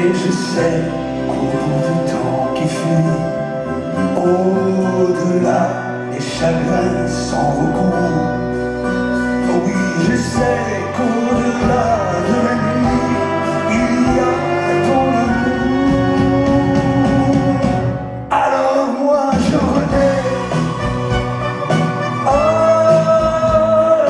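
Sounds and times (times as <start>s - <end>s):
backing band music: 0.0s - 24.0s
man singing: 0.0s - 24.0s.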